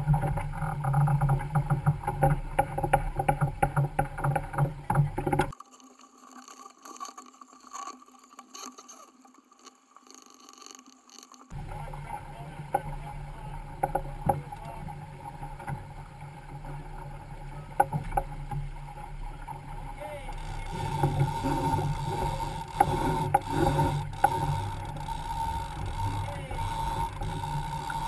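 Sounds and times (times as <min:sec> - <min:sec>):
water rushing along hull: 0:00.0 - 0:28.0.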